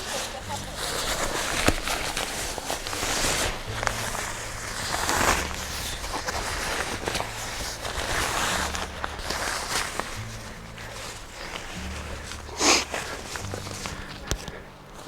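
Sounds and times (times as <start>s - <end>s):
camping gear rustling and scuffing: 0.0s - 15.0s.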